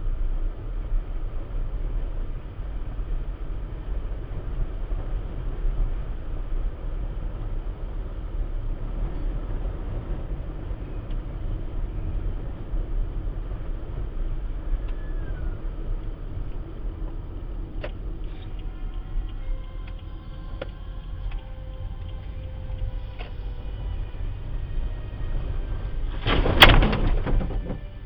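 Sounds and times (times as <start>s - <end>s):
road noise: 0.0s - 28.0s
wind buffeting car: 0.0s - 28.0s.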